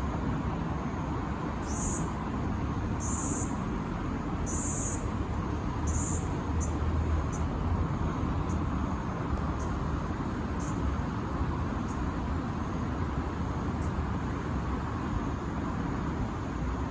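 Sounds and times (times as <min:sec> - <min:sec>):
city traffic rumble: 0:00.0 - 0:16.9.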